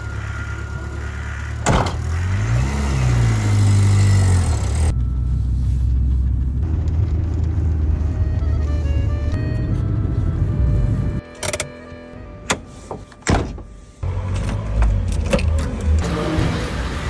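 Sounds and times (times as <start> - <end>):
vehicle engine revving: 0.0 - 11.3, 14.0 - 17.0.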